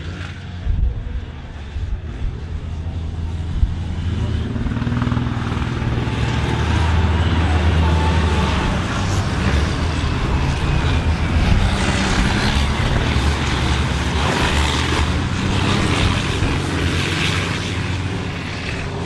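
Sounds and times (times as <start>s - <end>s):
diesel engines roaring: 0.0s - 19.0s.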